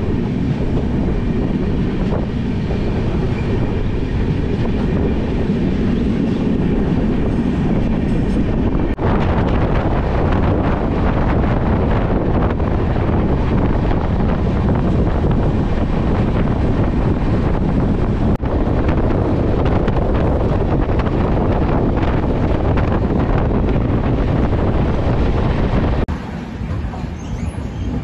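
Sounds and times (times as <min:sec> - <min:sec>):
train rumble: 0:00.0 - 0:28.0
wind buffeting microphone: 0:00.0 - 0:28.0.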